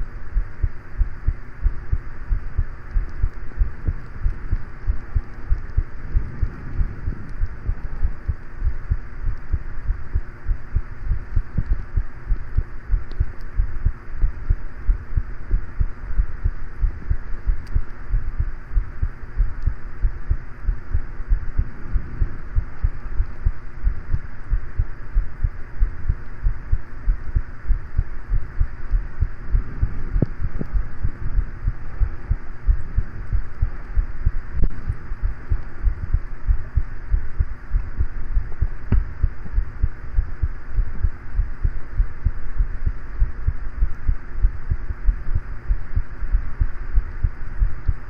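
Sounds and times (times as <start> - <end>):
fan humming: 0.0 - 48.0
heartbeat thuds: 0.0 - 48.0.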